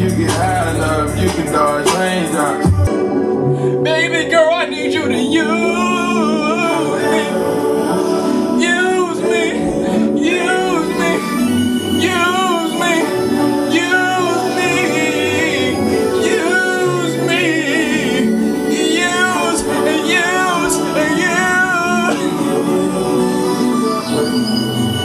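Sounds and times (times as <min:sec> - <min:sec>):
hip-hop track: 0:00.0 - 0:25.0
man singing loudly: 0:03.8 - 0:25.0.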